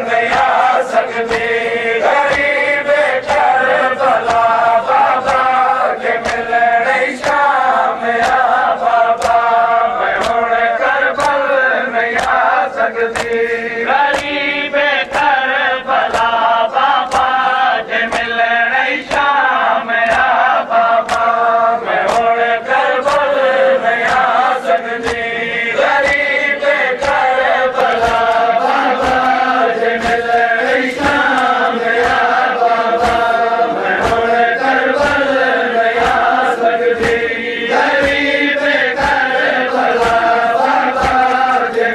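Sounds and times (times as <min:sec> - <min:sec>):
men chanting a lament: 0:00.0 - 0:41.9
rhythmic chest beating: 0:00.0 - 0:41.9.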